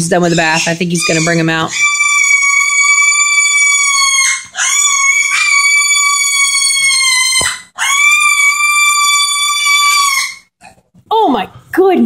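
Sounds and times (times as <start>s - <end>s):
pig squealing: 0.0s - 10.8s.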